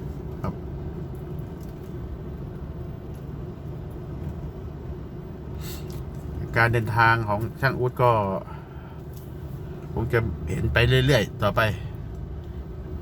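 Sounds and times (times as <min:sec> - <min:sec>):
truck rumbling from inside cab: 0:00.0 - 0:13.0.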